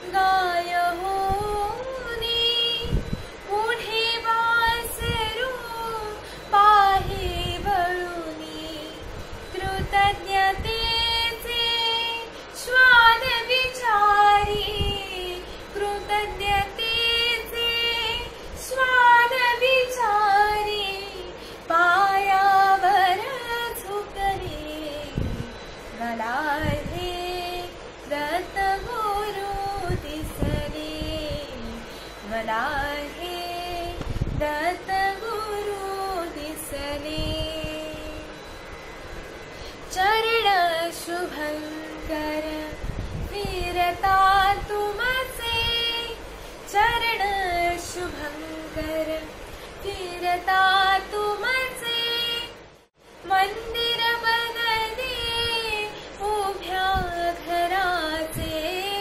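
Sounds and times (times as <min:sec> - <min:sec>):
woman singing: 0:00.0 - 0:38.6, 0:39.8 - 0:59.0.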